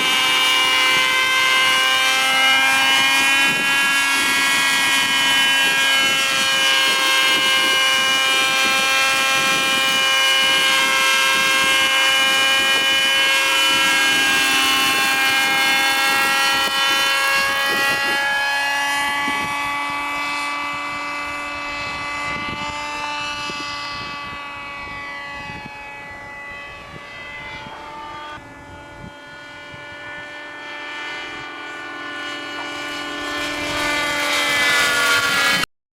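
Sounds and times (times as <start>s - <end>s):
model helicopter engine whine: 0.0s - 35.7s.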